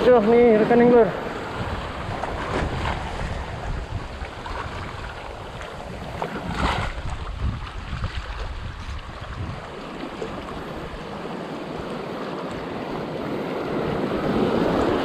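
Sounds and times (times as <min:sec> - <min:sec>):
small waves washing around rocks: 0:00.0 - 0:15.0
wind buffeting the microphone: 0:00.0 - 0:15.0.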